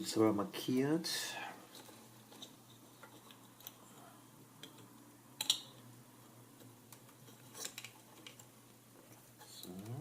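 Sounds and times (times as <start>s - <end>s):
faint steady low hum: 0.0s - 10.0s.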